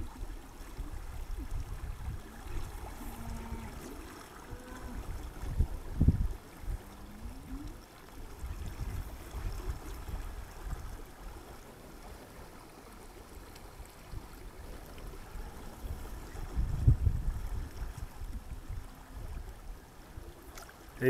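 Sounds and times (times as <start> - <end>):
wind on microphone: 0.0 - 11.5, 14.0 - 20.6
river water over riffle: 0.0 - 21.0.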